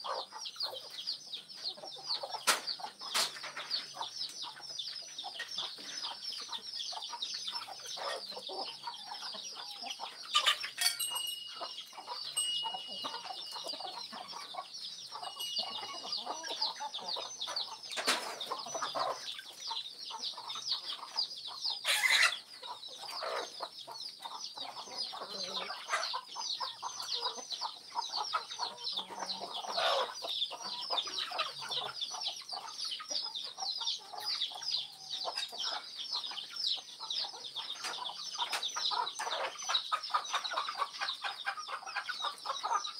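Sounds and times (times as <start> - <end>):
chickens clucking and cheeping: 0.0 - 42.9.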